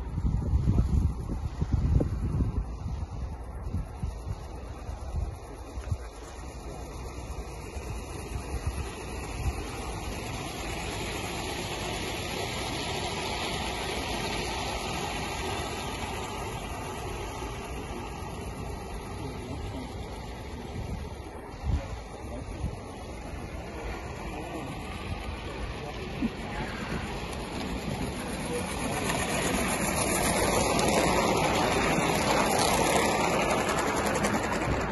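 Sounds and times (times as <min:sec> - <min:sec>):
model steam train rushing past: 0:00.0 - 0:34.9.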